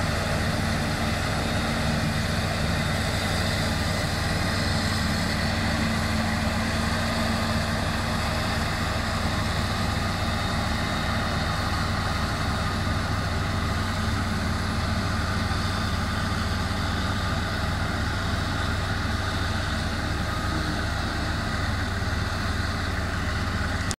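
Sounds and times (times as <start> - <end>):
forage harvester engine droning: 0.0 - 24.0
tractor engine: 0.0 - 24.0.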